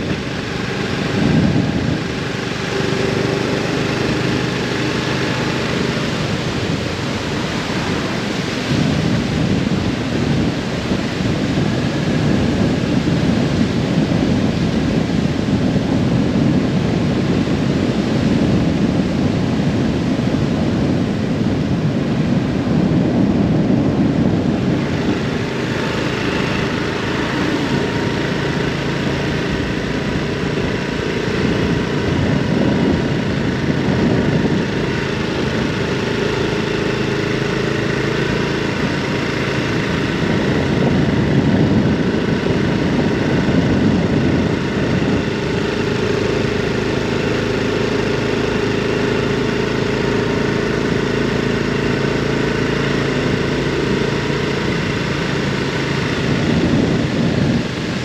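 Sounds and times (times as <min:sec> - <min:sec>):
motorcycle engine running: 0:00.0 - 0:58.0
rushing noise: 0:00.0 - 0:58.0.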